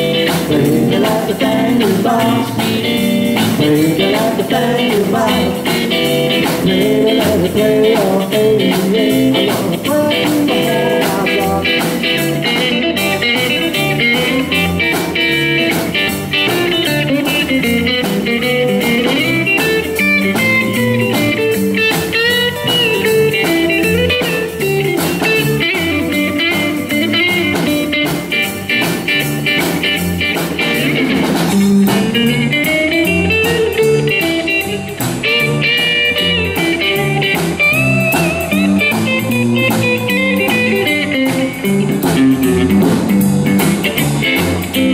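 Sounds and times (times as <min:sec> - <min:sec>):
drum kit beat: 0:00.0 - 0:44.9
electric guitar: 0:00.0 - 0:44.9
upright double bass: 0:00.0 - 0:44.9.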